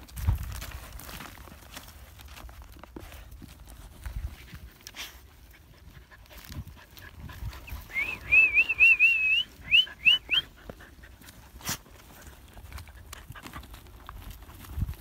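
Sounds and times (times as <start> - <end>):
dirt clods pattering: 0.0 - 15.0
paws scraping dirt: 0.0 - 15.0.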